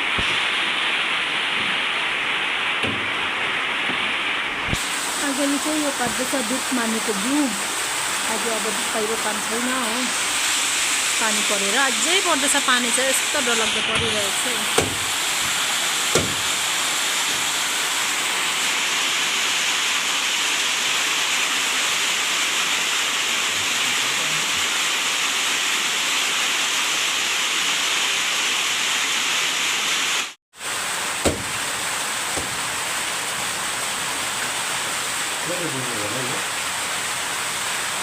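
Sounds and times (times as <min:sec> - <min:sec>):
heavy rain pouring: 0:00.0 - 0:28.0, 0:28.8 - 0:38.0.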